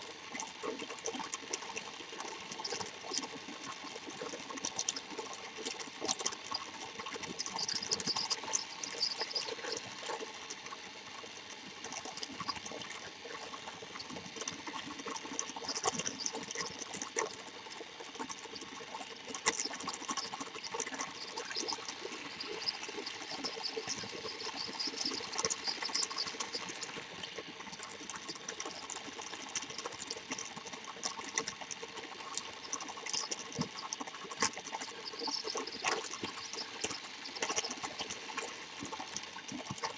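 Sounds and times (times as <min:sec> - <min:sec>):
wheels clicking on plastic track: 0:00.9 - 0:10.6, 0:11.8 - 0:39.9
toy train motor whirring: 0:01.1 - 0:39.9.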